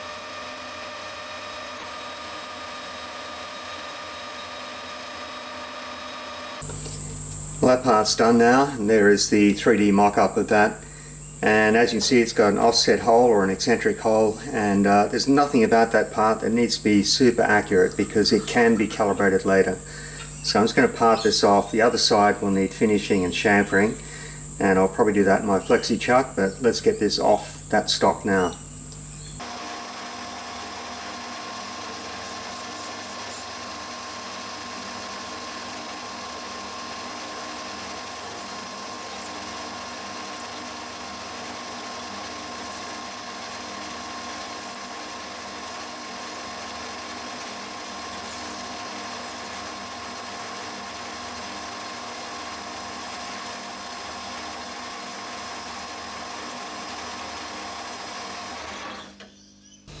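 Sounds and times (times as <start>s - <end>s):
metal lathe whining: 0.0s - 59.3s.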